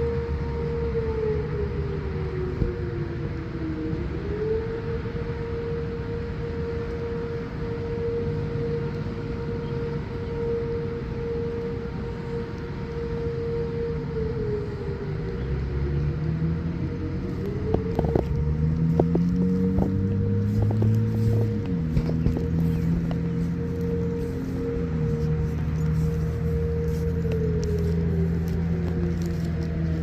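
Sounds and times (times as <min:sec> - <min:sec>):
low rumble: 0:00.0 - 0:30.0
outdoor warning siren: 0:00.0 - 0:30.0.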